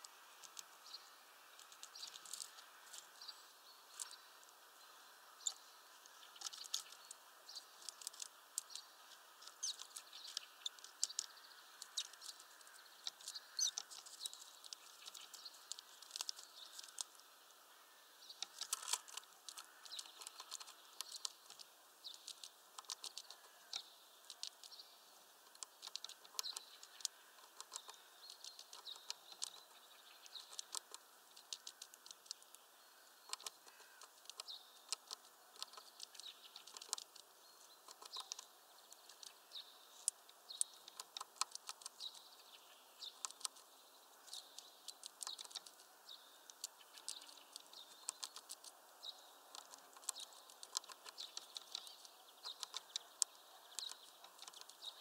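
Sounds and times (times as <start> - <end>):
woodpecker pecking: 0.0 - 55.0.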